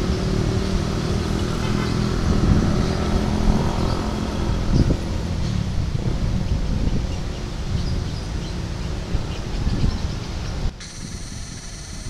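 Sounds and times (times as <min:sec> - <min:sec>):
locomotive engine droning: 0:00.0 - 0:12.0.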